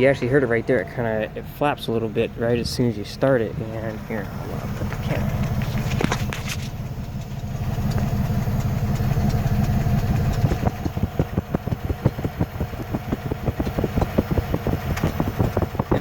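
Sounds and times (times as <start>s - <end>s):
engine idling with misfire: 0.0s - 16.0s.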